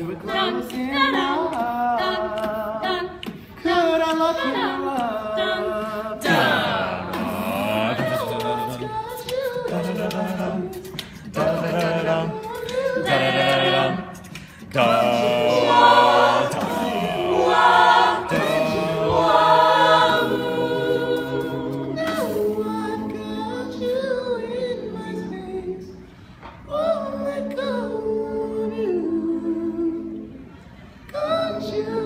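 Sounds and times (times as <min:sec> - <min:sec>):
a cappella ensemble singing: 0:00.0 - 0:32.0.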